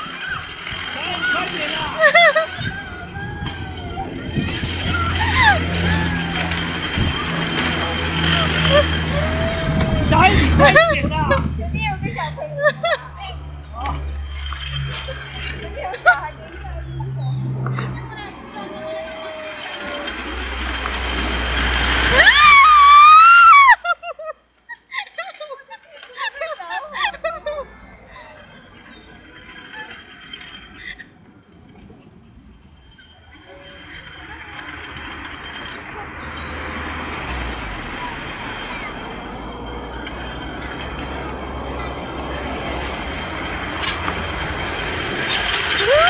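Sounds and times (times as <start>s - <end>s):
rushing rumble of sliding: 0.0s - 23.8s, 26.2s - 46.0s.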